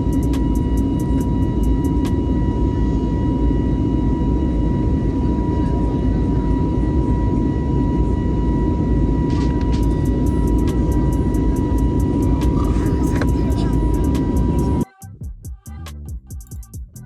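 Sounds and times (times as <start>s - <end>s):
high whine: 0.0s - 14.8s
jet cabin engine and air rush: 0.0s - 14.8s.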